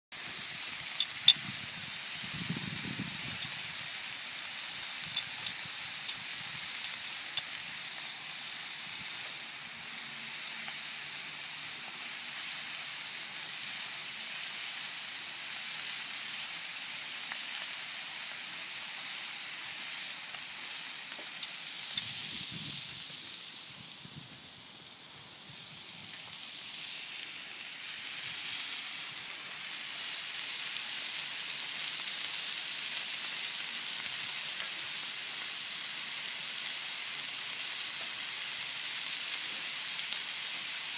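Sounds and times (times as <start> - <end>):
meat sizzling on a hotplate: 0.1 - 24.0, 24.9 - 40.9.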